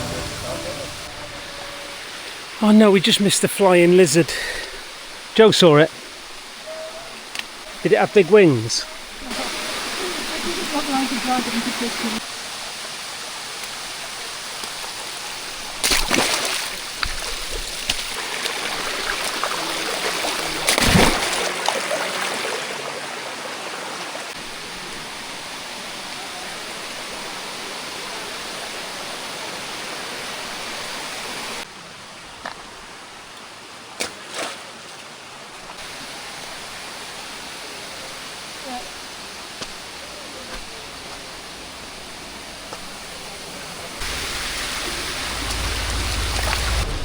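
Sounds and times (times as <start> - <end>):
stream rushing: 0.0 - 47.0.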